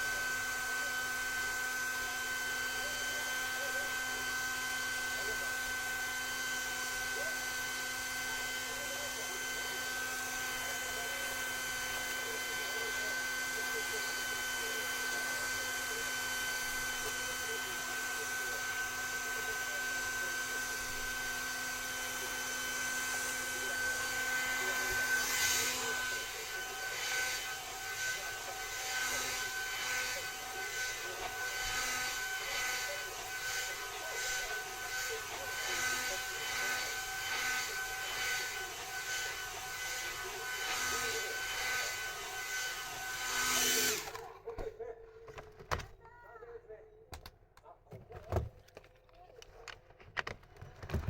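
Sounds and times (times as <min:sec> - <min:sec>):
hair dryer running: 0:00.0 - 0:44.2.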